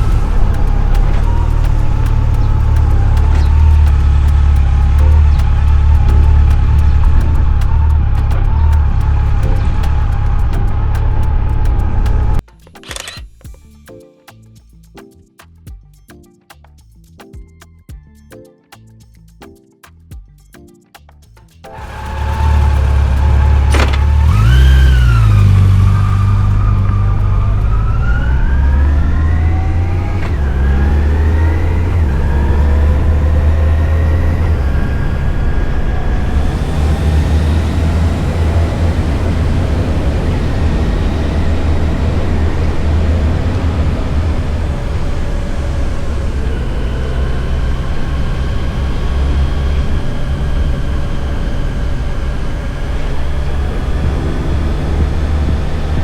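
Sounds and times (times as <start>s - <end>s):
motorcycle engine accelerating: 0.0s - 12.4s, 21.7s - 56.0s
wind rush: 0.0s - 12.4s, 21.8s - 56.0s.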